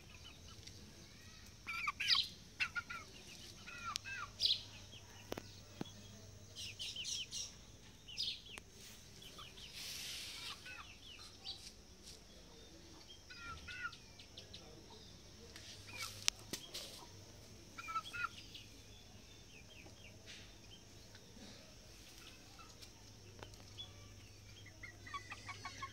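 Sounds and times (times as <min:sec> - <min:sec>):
chicks clucking and chirping: 0:01.5 - 0:11.7, 0:12.4 - 0:25.9.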